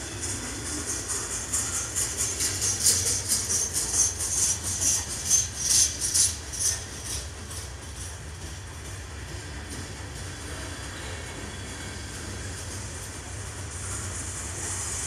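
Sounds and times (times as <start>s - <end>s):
train rumble: 0.0s - 15.0s
train wheels clicking and squealing: 0.0s - 15.0s.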